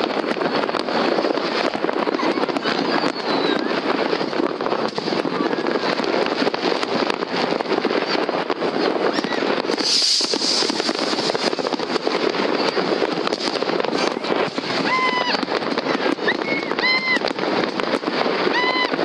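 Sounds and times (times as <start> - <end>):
distant fireworks crackling and banging: 0.0 - 19.0.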